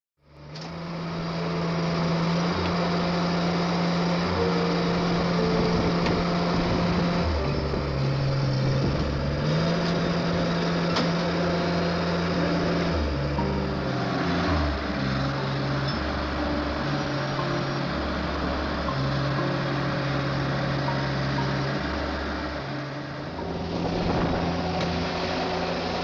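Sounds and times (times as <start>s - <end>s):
low sustained bass notes: 0.2s - 26.0s.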